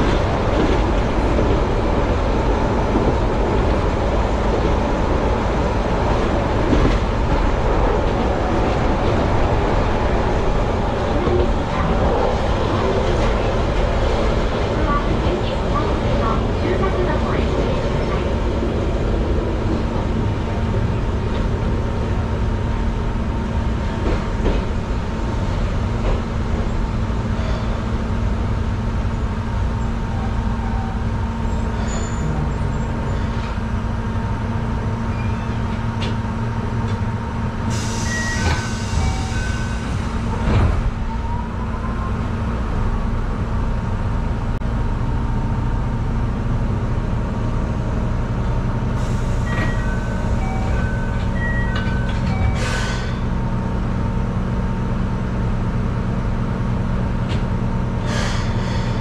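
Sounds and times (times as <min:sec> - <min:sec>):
electric railcar rumble and hum: 0:00.0 - 0:59.0.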